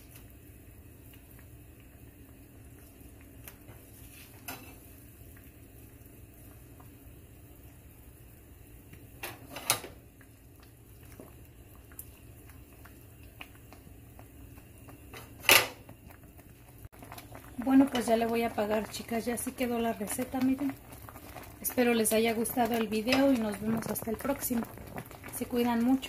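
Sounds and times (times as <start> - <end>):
salsa simmering in skillet: 0.0 - 26.0.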